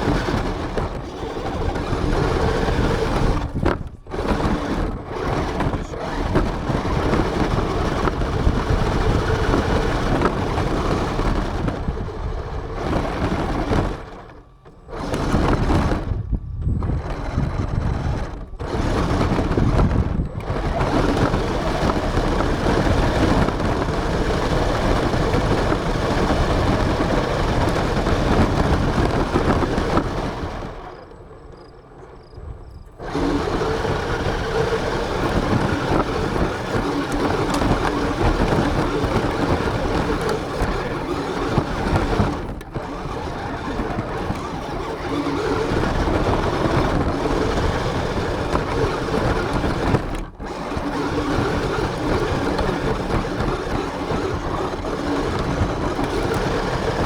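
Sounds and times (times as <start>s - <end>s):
rattling and rumbling over ground: 0.0s - 57.0s
rc car motor whine: 0.0s - 57.0s.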